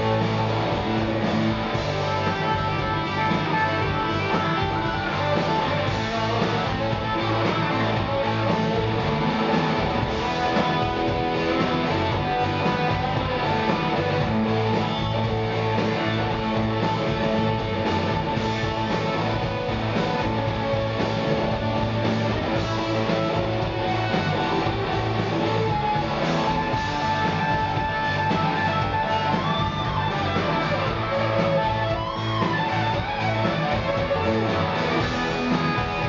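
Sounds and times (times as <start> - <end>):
bass guitar: 0.0 - 36.0
drum kit: 0.0 - 36.0
electric guitars: 0.0 - 36.0.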